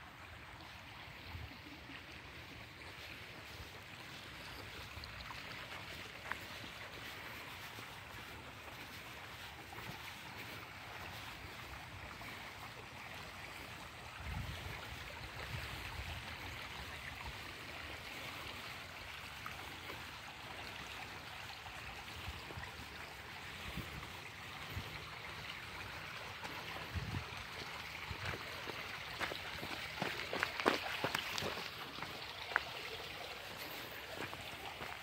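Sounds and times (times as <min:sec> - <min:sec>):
creek flowing over rocks: 0:00.0 - 0:35.0.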